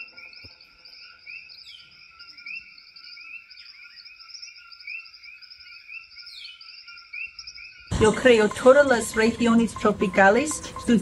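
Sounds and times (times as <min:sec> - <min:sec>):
frogs and insects chirping: 0:00.0 - 0:11.0.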